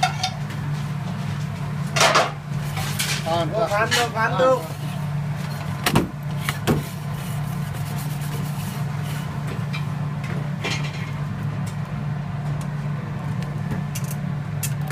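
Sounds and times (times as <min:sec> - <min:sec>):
kitchen equipment humming: 0:00.0 - 0:14.9.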